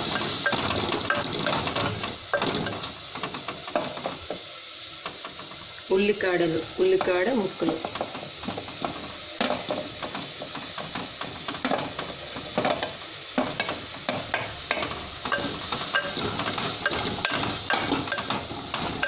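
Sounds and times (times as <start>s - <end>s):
greens sizzling in oil: 0.0s - 19.0s.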